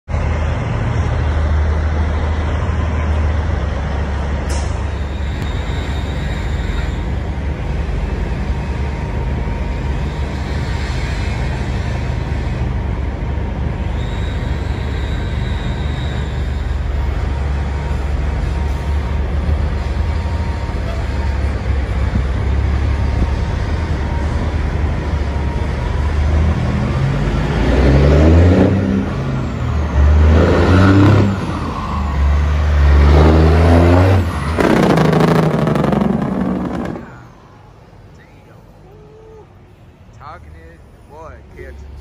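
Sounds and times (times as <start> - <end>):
diesel truck engine rumbling: 0.1 - 42.0.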